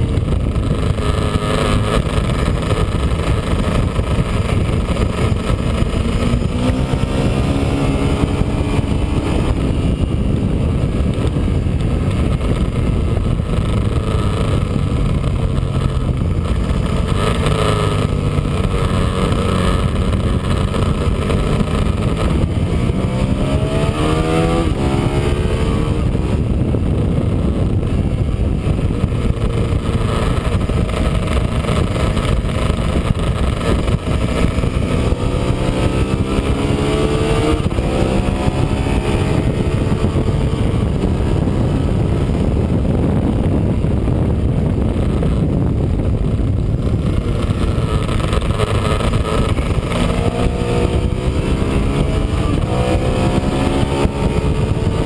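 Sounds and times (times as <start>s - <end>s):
motorcycle engine running hard: 0.0s - 55.0s
wind noise: 0.0s - 55.0s.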